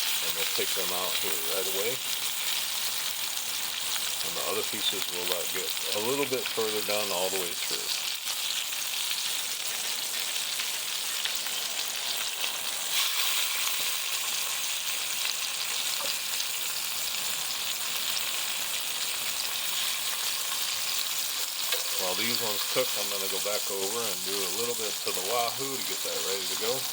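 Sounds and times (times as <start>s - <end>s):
fish sizzling in a pan: 0.0s - 26.9s.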